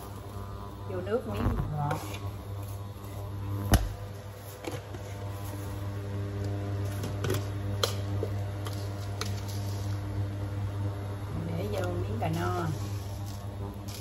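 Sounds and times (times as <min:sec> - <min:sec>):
cooling fan running: 0:00.0 - 0:14.0
induction cooktop humming: 0:00.0 - 0:14.0.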